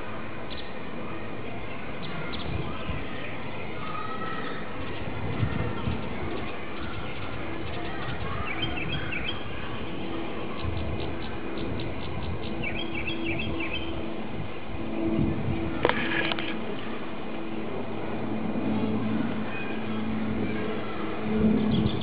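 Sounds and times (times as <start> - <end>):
faint hum: 0.0 - 22.0
small birds chirping and twittering: 0.4 - 17.6, 18.2 - 22.0.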